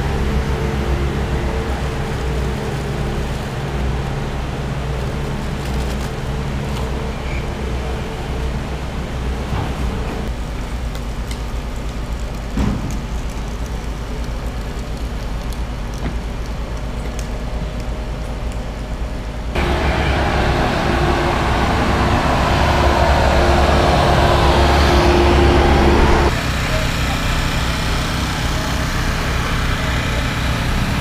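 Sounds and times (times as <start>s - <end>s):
diesel engine running close by: 0.0s - 11.0s, 16.3s - 31.0s
low machinery rumble: 0.0s - 31.0s
street noise: 0.0s - 31.0s.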